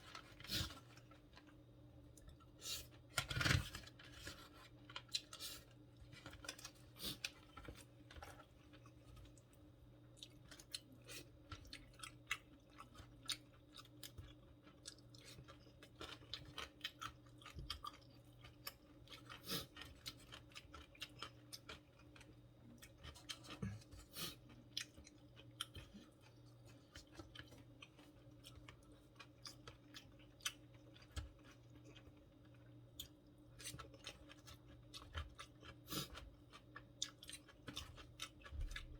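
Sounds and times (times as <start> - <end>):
faint steady hum: 0.0 - 38.9
chewing food: 4.3 - 38.9.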